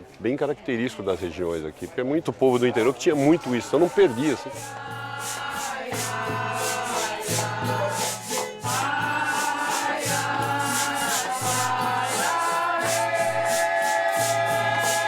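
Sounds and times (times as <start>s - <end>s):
shaker rhythm: 0.0s - 15.0s
group singing in harmony: 2.3s - 15.0s.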